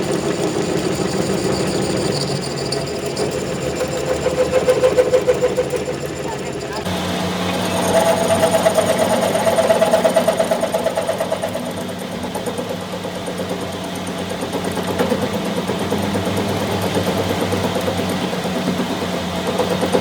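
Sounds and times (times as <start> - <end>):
machine pulsing hum: 0.0 - 20.0.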